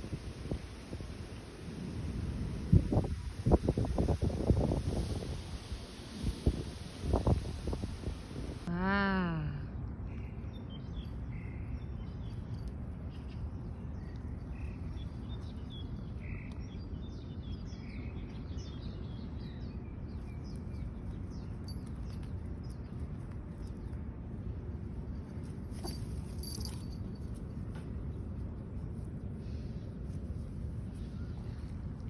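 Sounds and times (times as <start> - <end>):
low outdoor rumble: 0.0 - 4.2, 4.8 - 32.0.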